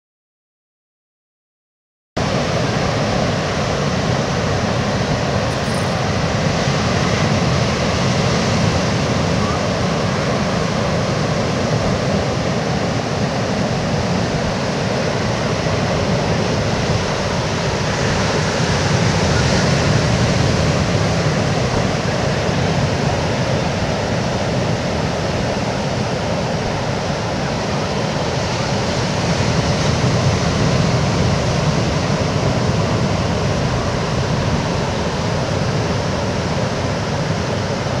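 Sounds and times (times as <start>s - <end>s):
ocean surf washing: 2.2s - 38.0s.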